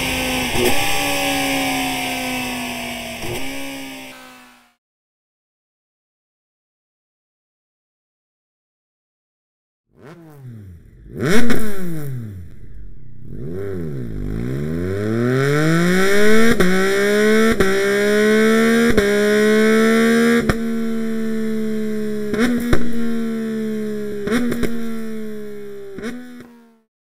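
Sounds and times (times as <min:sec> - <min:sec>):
motorcycle engine revving: 0:00.0 - 0:04.8, 0:09.9 - 0:26.9.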